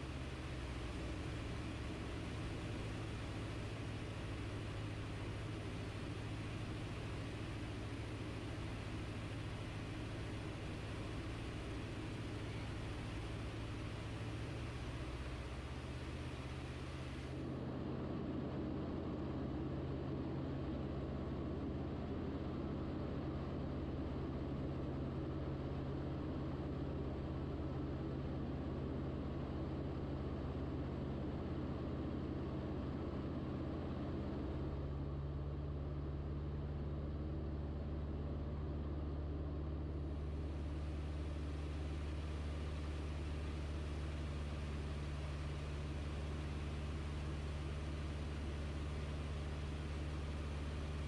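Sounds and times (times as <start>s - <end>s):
propeller aircraft engine droning: 0.0s - 51.0s.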